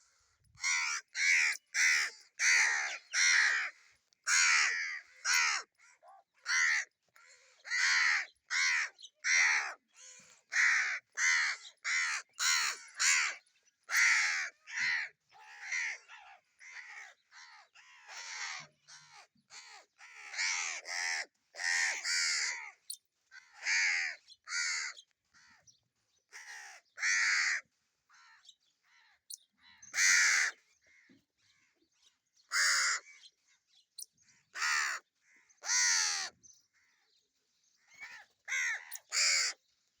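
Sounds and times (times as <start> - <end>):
crows cawing: 0.6 - 22.8, 23.4 - 25.6, 26.4 - 31.2, 32.5 - 33.3, 34.5 - 36.4, 37.9 - 39.6.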